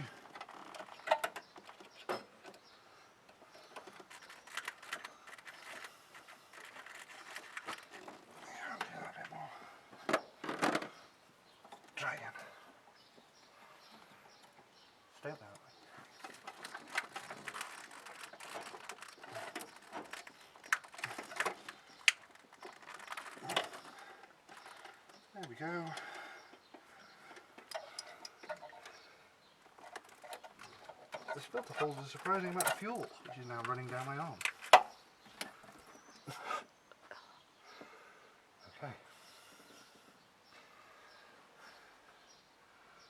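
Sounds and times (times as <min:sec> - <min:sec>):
clicks and light knocks of hands working: 0:00.0 - 0:38.0.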